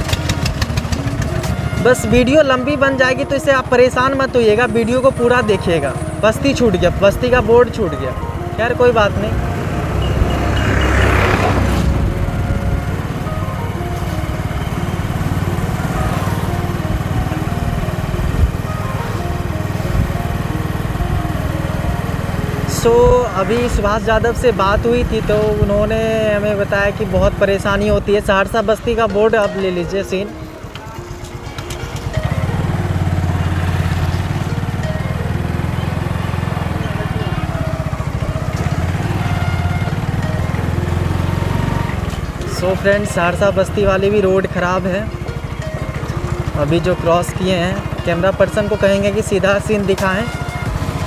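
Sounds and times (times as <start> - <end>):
small vehicle engine droning: 0.0 - 51.0.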